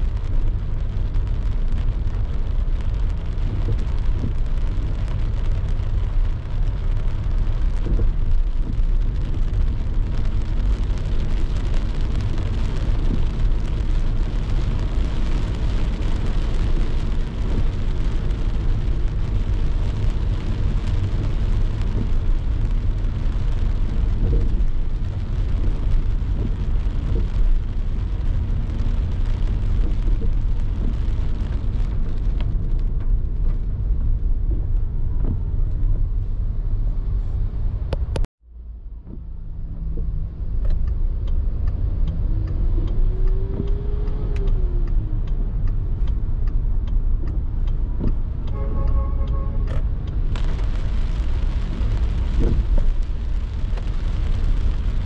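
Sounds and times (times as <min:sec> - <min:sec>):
hiss of rain and wet tyres: 0:00.0 - 0:38.3, 0:39.0 - 0:55.0
car road rumble: 0:00.0 - 0:55.0.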